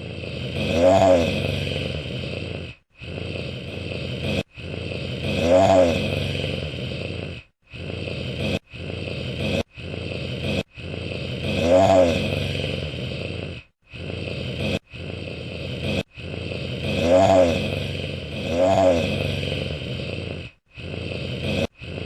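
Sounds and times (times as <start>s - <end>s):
wolf growling: 0.0s - 22.0s
wolf snarling: 0.0s - 22.0s.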